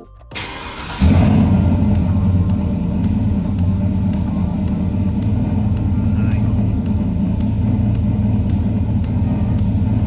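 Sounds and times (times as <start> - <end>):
truck engine starting and idling: 0.1 - 10.0.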